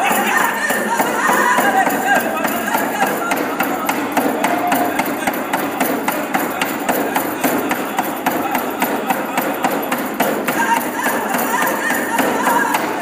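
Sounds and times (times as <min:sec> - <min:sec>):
steady drumbeat: 0:00.0 - 0:13.0
voices singing: 0:00.0 - 0:13.0.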